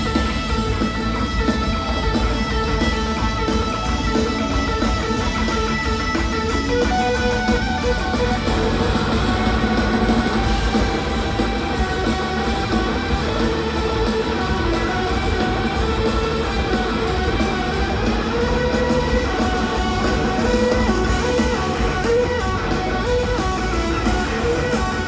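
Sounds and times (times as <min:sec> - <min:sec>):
bass guitar: 0:00.0 - 0:25.0
drums: 0:00.0 - 0:25.0
electric guitar: 0:00.0 - 0:25.0
organ: 0:00.0 - 0:25.0.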